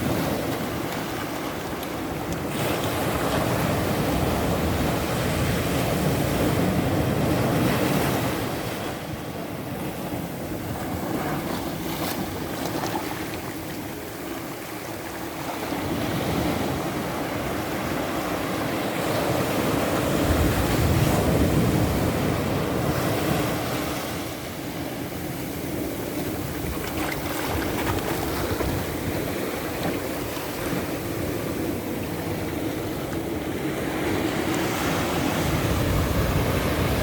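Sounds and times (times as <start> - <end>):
waves breaking on shore: 0.0 - 37.0.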